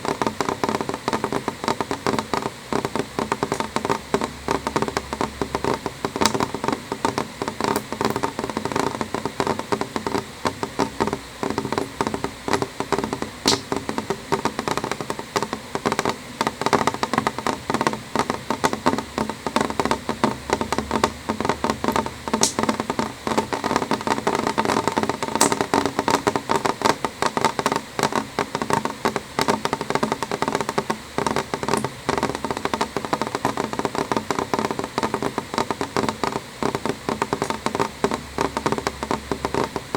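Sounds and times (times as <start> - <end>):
rain tapping on window glass: 0.0 - 39.9.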